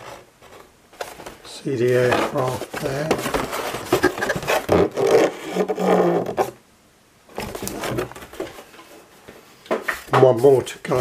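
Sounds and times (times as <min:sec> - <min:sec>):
cardboard and plastic packaging rustling: 0:00.0 - 0:06.6, 0:07.3 - 0:11.0.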